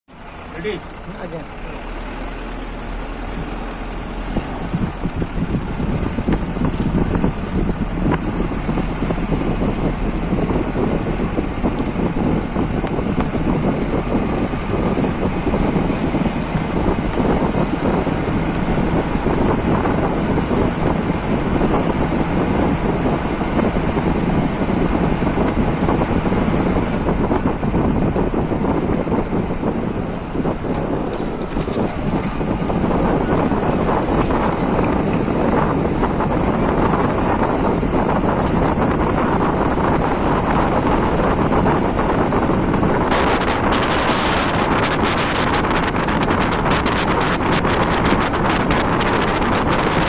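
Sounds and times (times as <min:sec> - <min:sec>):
vehicle engine and road noise: 0:00.0 - 0:50.0
wind buffeting microphone: 0:00.1 - 0:50.0.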